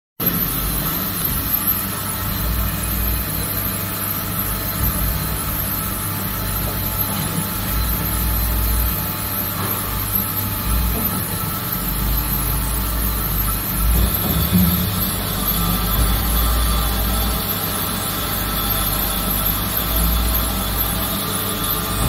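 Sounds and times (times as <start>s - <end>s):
band saw running: 0.2s - 22.0s.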